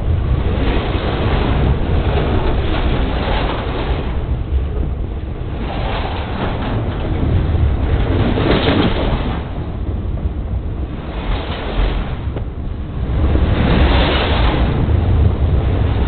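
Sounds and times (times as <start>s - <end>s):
train rumbling overhead: 0.0s - 16.0s.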